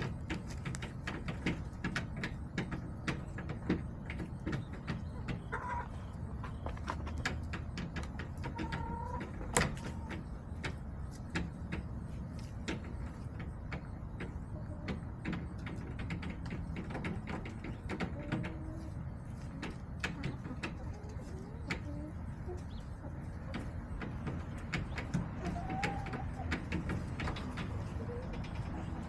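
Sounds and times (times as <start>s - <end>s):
chickens clicking and tapping: 0.0s - 29.0s
chickens clucking softly: 0.0s - 29.0s.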